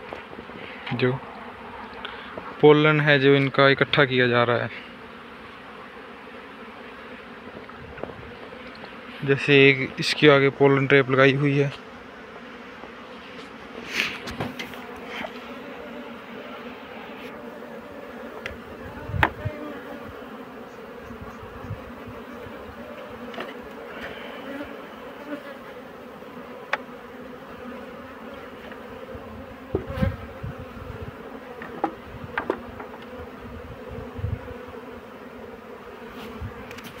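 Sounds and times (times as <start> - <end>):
honey bees buzzing: 0.0 - 37.0.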